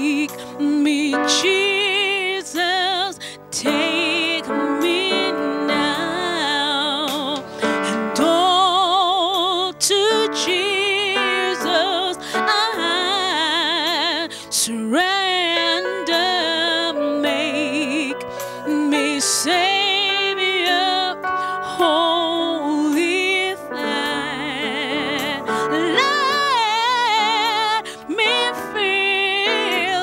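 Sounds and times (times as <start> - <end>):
keyboard chords: 0.0 - 30.0
woman singing with vibrato: 0.0 - 30.0.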